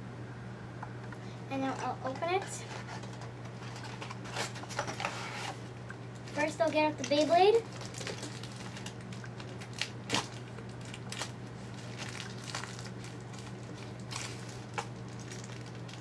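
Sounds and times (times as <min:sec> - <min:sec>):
plastic packaging crinkling: 0:02.6 - 0:16.0.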